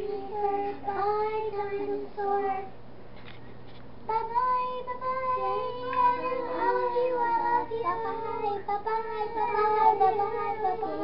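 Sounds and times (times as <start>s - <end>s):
children singing together: 0.0s - 2.7s, 4.1s - 11.0s.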